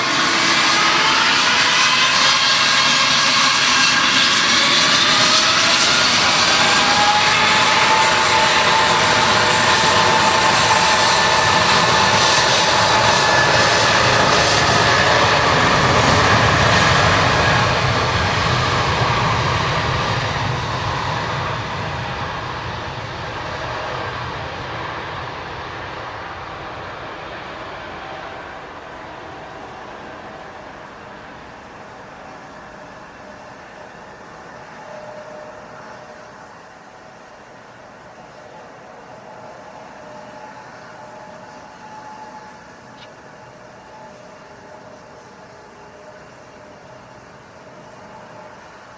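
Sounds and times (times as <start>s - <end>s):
jet engines at takeoff: 0.0s - 48.9s.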